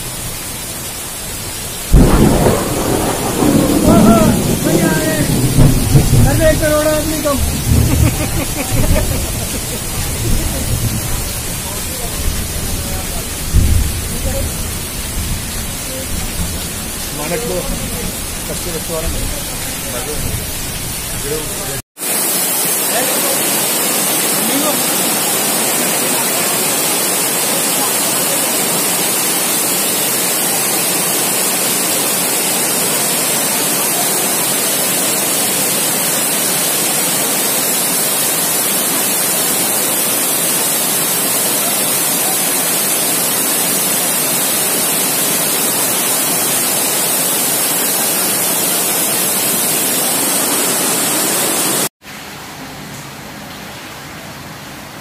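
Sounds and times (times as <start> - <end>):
floodwater roaring: 0.0 - 51.9
rain hiss: 0.0 - 55.0.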